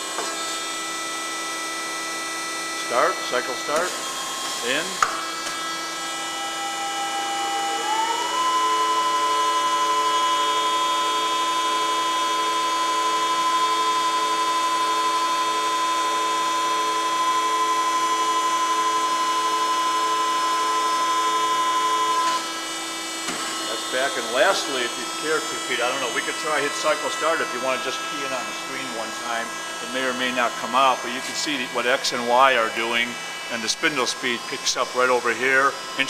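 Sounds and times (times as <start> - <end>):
lathe machine whine: 0.0 - 36.0.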